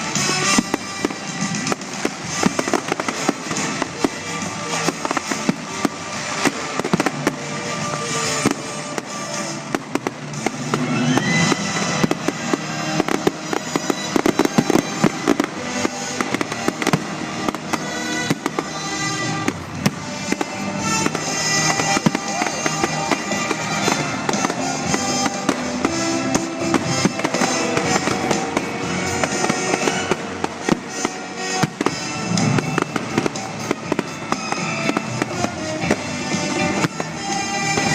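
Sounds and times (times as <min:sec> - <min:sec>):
fireworks bangs and crackles: 0:00.0 - 0:37.9
music playing: 0:00.0 - 0:37.9.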